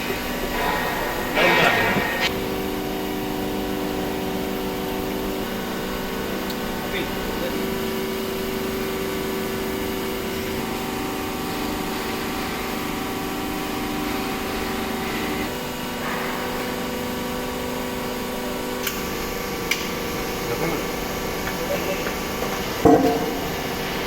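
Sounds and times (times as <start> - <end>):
hydraulic pump motor hum: 0.0 - 6.9, 7.5 - 24.0.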